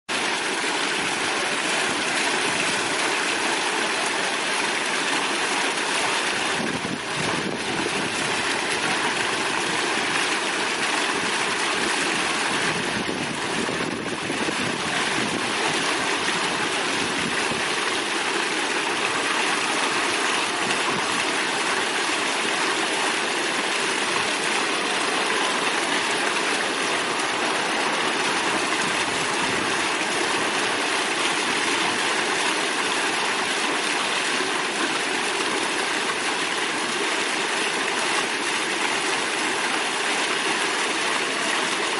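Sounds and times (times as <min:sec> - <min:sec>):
fountain splashing: 0:00.1 - 0:41.9
water spilling into basin: 0:00.1 - 0:41.9.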